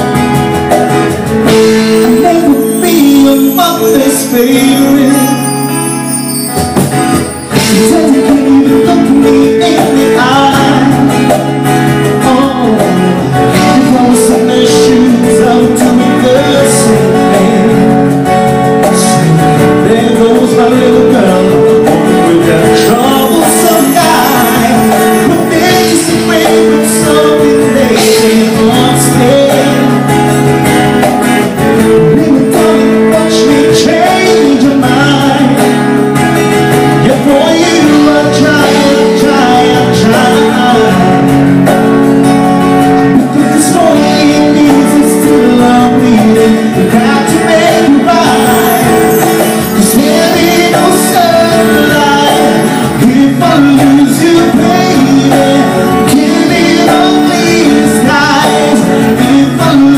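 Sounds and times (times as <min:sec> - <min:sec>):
electric guitar: 0:00.0 - 0:59.9
man singing into microphone: 0:00.0 - 0:59.9
percussion: 0:00.0 - 0:59.9.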